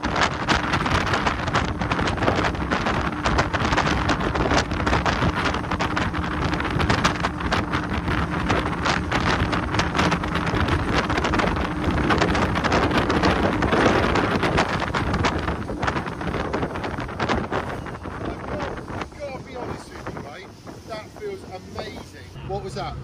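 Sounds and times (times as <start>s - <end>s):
boat engine drone: 0.0s - 23.0s
water rushing past hull: 0.0s - 23.0s
wind buffeting microphone: 0.0s - 23.0s.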